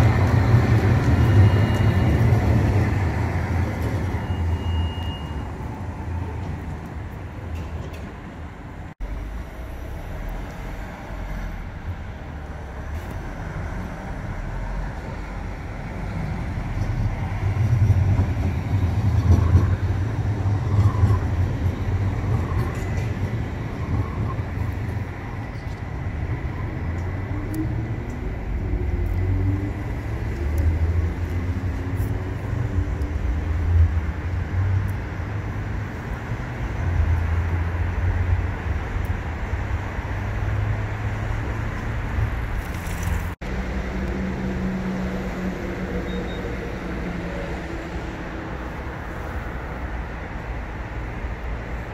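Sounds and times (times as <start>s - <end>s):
tram rumbling in motion: 0.0s - 51.9s.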